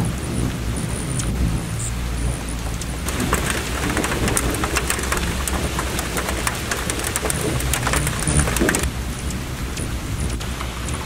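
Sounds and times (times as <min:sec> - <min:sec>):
rain pattering on foliage: 0:00.0 - 0:11.0
steady low rumble: 0:00.0 - 0:11.0.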